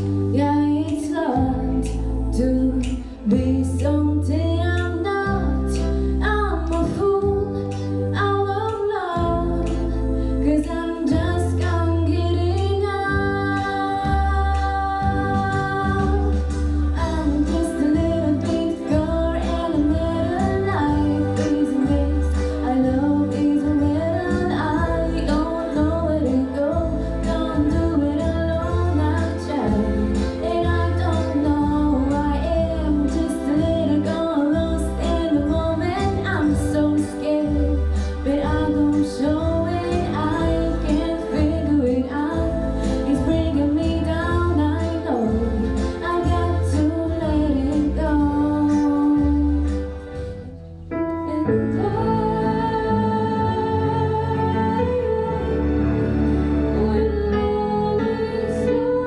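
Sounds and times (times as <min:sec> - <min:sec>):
girl singing into microphone: 0:00.0 - 0:50.3, 0:51.0 - 0:55.6, 0:56.8 - 0:59.0
music with pulsing bass: 0:00.0 - 0:59.0.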